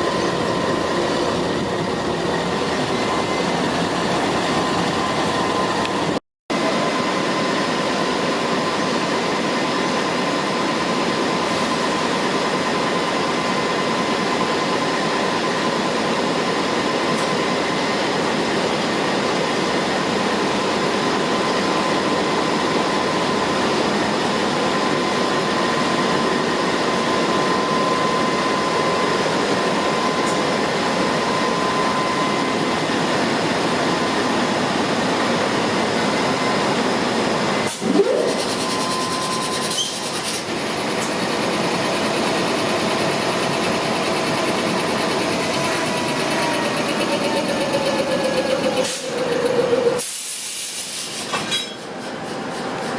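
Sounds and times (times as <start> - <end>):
diesel train humming: 0.0 - 52.9.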